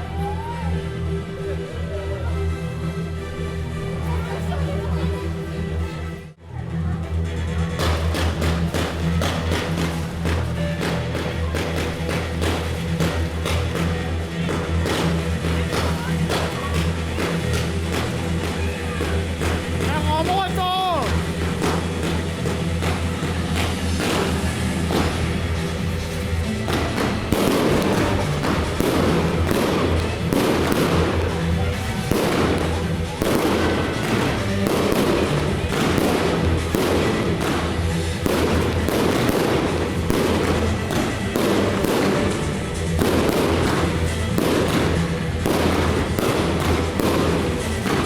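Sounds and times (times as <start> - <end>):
music with steady bass line: 0.0 - 48.0
fireworks banging and crackling: 7.3 - 48.0.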